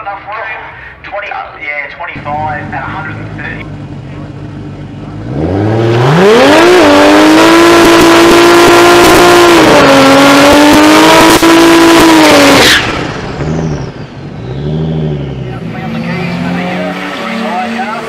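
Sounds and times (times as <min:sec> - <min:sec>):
car engine revving: 0:02.2 - 0:18.0.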